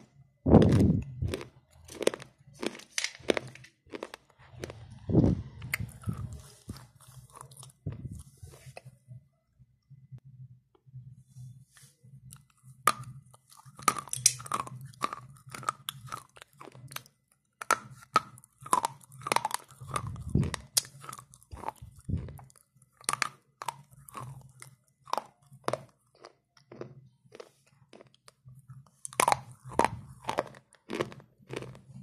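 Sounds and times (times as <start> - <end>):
faint low hum: 0.0 - 32.0
slate pencils being chewed: 0.5 - 9.0, 12.2 - 32.0.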